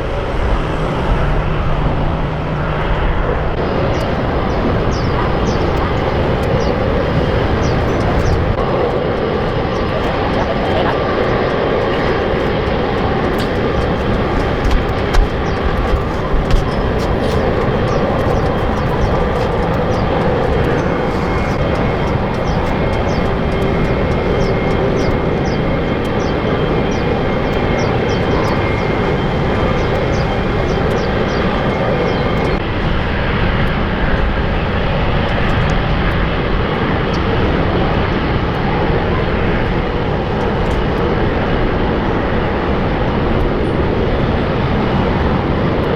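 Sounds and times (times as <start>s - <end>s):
jet airliner engines running: 0.0s - 45.9s.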